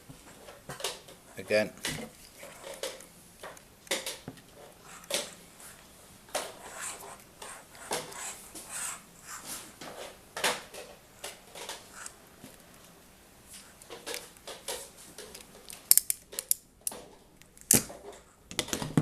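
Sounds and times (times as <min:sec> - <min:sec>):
scraping and rustling handling: 0:00.0 - 0:18.9.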